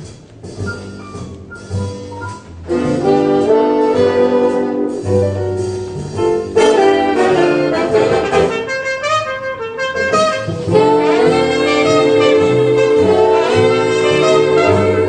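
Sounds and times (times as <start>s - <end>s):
jazz with saxophone and brass: 0.0s - 15.0s.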